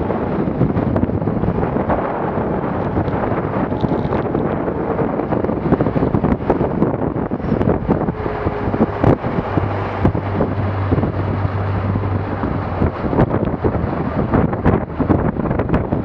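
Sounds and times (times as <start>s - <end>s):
low steady hum: 0.0s - 16.0s
water splashing against boat: 0.0s - 16.0s
wind buffeting microphone: 0.0s - 16.0s.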